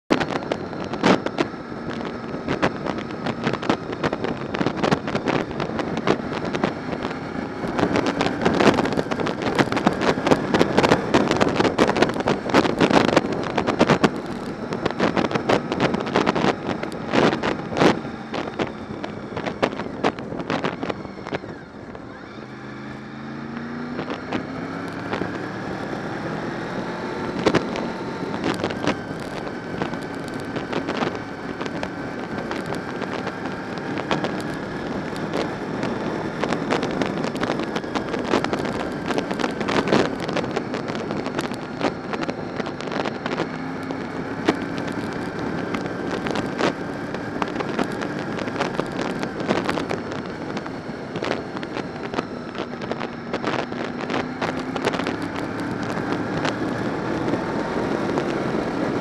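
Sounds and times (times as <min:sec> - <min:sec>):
motorcycle engine running: 0:00.0 - 0:59.0
wind buffeting microphone: 0:00.1 - 0:59.0.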